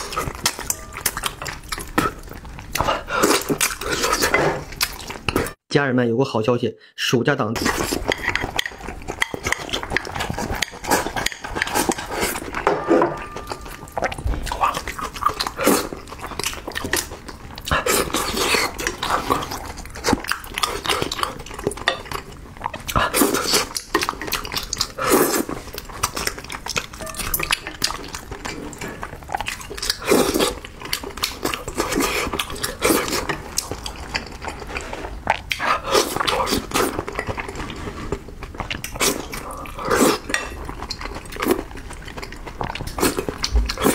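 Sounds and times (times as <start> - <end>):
man slurping and chewing: 0.0 - 5.6, 7.6 - 12.6, 13.2 - 43.9.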